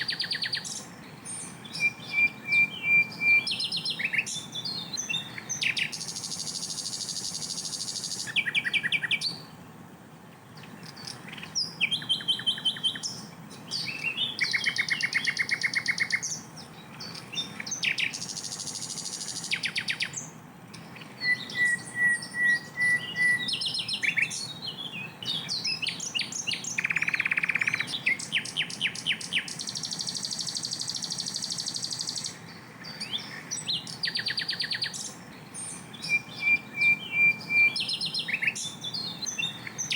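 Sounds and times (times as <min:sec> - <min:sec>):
flycatcher singing: 0:00.0 - 0:09.6, 0:10.5 - 0:39.9.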